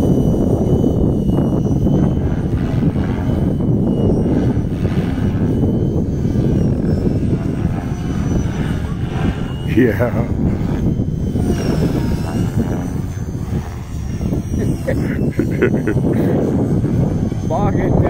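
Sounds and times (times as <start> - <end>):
high motor whine: 0.0 - 18.0
rc helicopter rotor whirr: 0.0 - 18.0.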